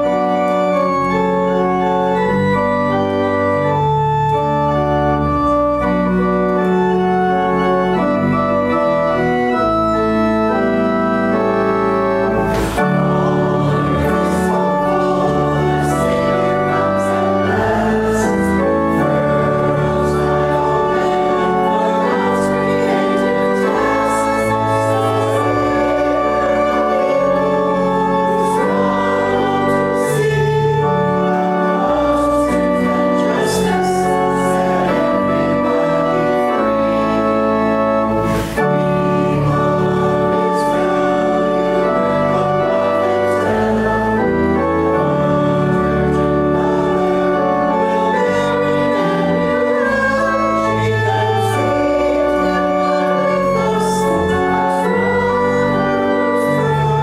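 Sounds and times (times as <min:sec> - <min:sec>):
church organ playing a hymn: 0:00.0 - 0:57.0
congregation singing faintly: 0:00.0 - 0:57.0.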